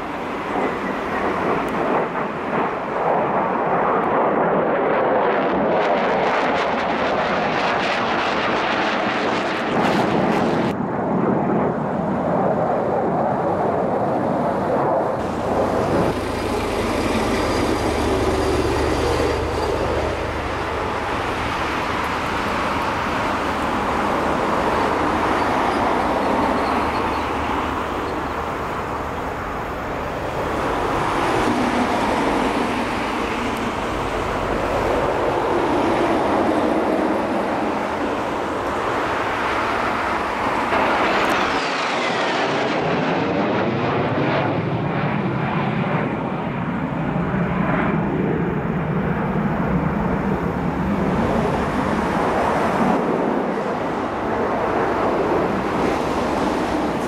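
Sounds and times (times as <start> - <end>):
jet engine roar: 0.0 - 57.0.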